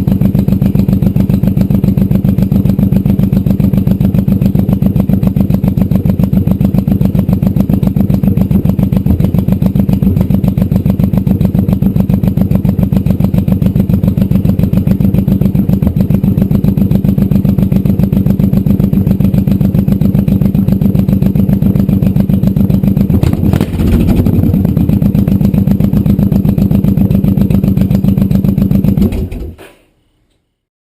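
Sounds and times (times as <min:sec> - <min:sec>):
motorcycle engine idling: 0:00.0 - 0:29.6.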